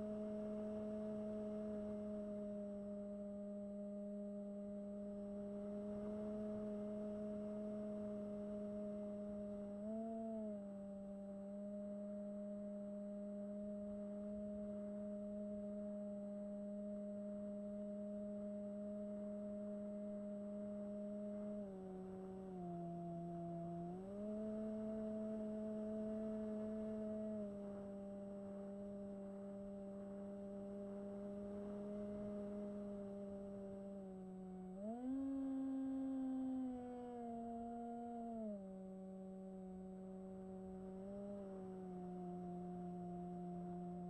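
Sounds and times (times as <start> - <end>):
model plane electric motor whine: 0.0 - 44.0.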